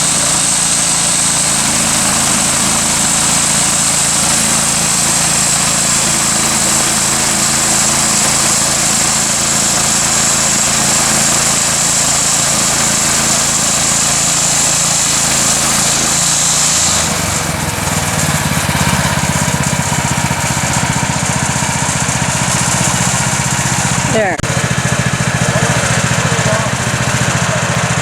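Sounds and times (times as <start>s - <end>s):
band blade hissing through log: 0.0s - 28.0s
sawmill gas engine running: 0.0s - 28.0s.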